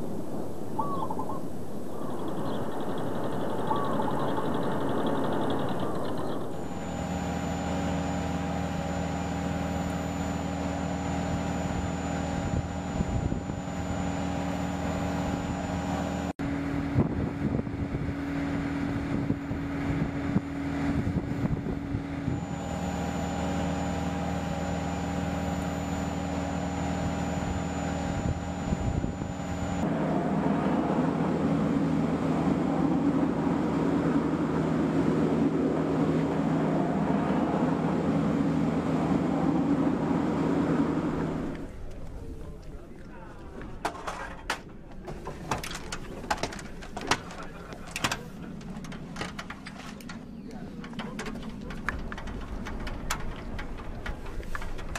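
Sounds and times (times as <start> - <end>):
aircraft engine drone: 0.0 - 54.9.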